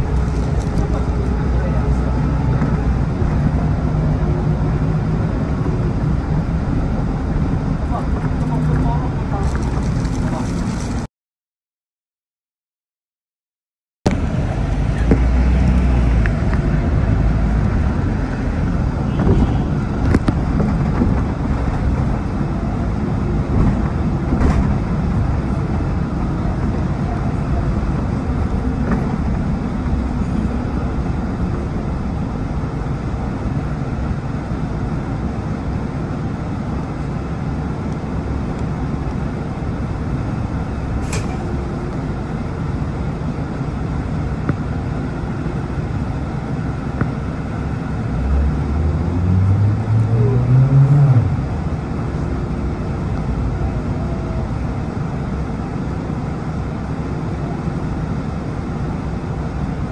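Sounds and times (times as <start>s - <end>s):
bus engine low rumble: 0.0s - 11.1s, 14.1s - 59.9s
road noise: 0.0s - 11.1s, 14.1s - 59.9s.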